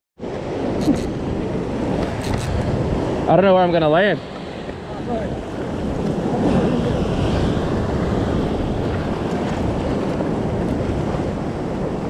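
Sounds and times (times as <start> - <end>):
ocean surf washing against rocks: 0.2 - 12.0
wind buffeting microphone: 0.2 - 12.0.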